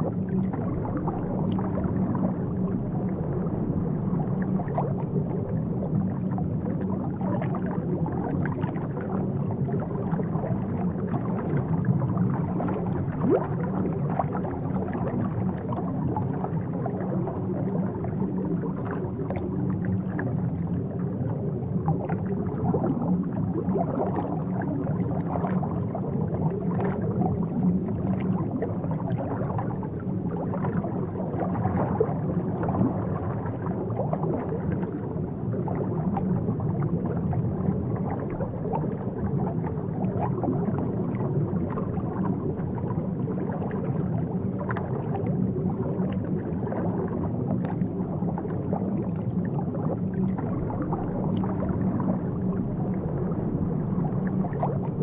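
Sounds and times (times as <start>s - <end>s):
aquarium water gurgling: 0.0s - 55.0s
constant low hum: 0.0s - 55.0s.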